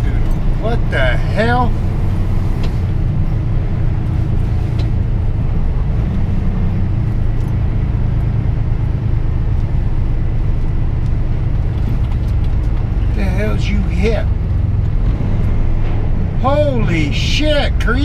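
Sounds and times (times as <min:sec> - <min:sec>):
vehicle engine drone: 0:00.0 - 0:18.0.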